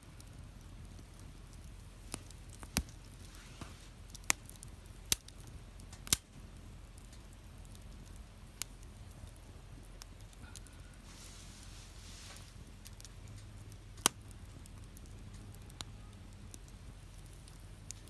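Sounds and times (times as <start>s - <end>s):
fire low hiss: 0.0s - 18.0s
wood fire popping: 0.0s - 18.0s.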